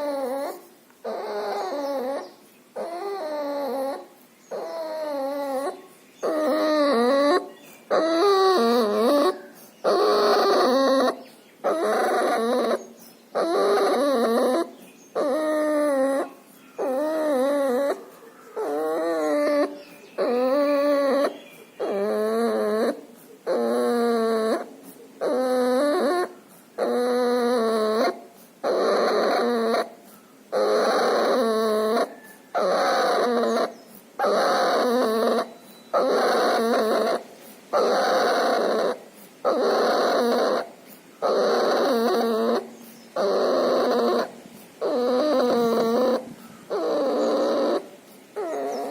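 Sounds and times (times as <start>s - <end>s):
puppy breathing laboriously: 0.0s - 48.9s.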